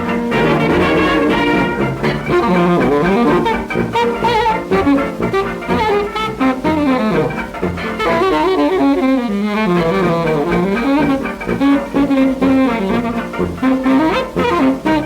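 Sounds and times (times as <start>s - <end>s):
hot jazz band on old record: 0.0s - 15.0s.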